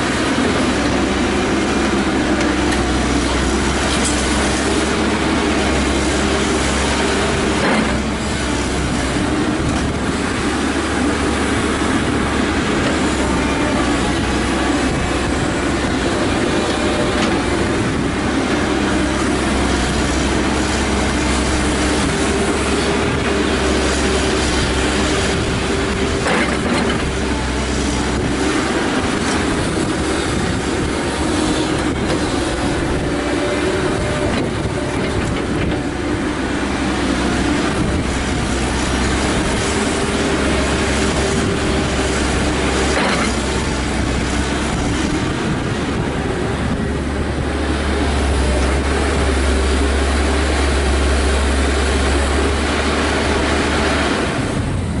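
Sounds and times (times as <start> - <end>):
excavator diesel engine with whine: 0.0 - 55.0.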